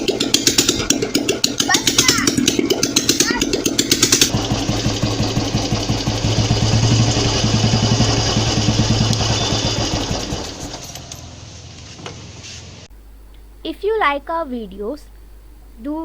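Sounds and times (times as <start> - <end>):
single-cylinder engine running: 0.0 - 12.9.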